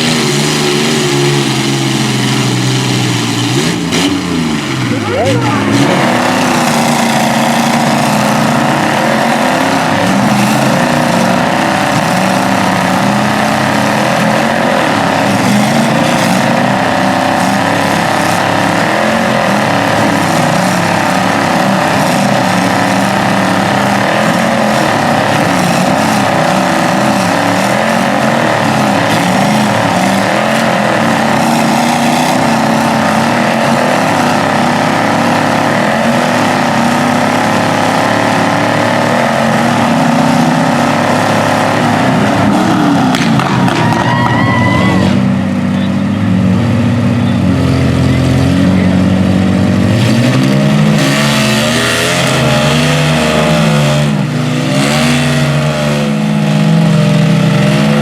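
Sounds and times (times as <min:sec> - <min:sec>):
truck engines revving high: 0:00.0 - 0:58.0.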